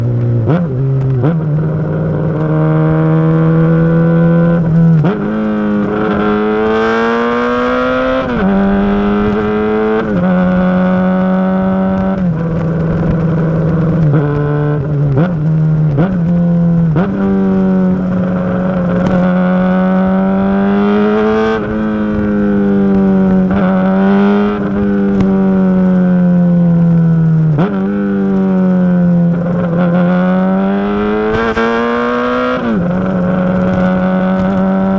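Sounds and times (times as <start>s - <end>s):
motorcycle exhaust revving: 0.0s - 34.9s.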